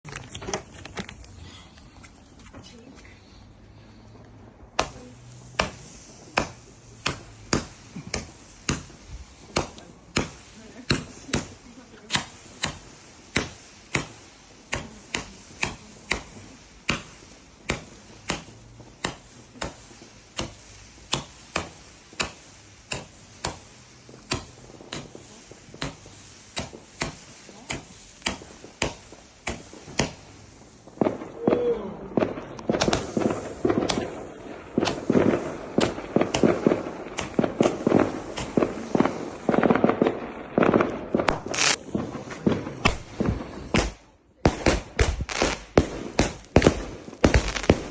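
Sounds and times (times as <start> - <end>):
fireworks bangs: 0.0 - 47.9.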